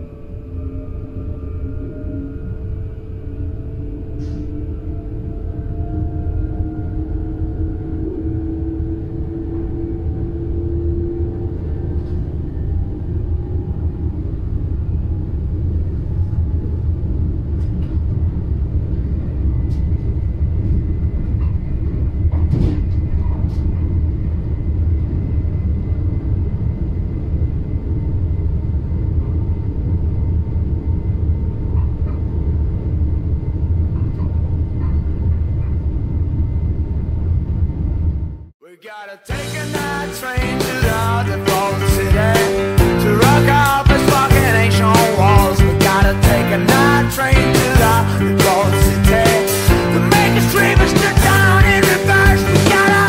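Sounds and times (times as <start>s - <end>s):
train low rumble: 0.0s - 38.6s, 39.4s - 53.0s.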